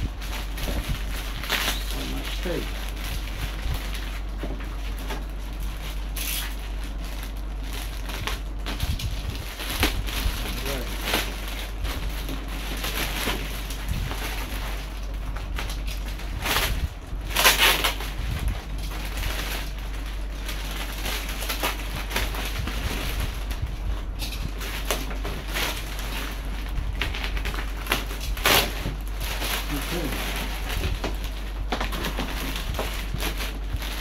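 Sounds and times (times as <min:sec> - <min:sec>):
plastic wrapping crinkling: 0:00.0 - 0:34.0.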